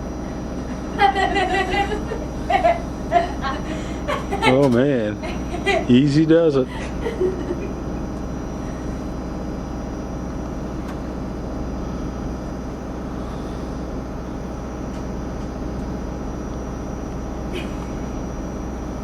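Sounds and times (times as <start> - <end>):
diesel locomotive engine humming: 0.0 - 19.0.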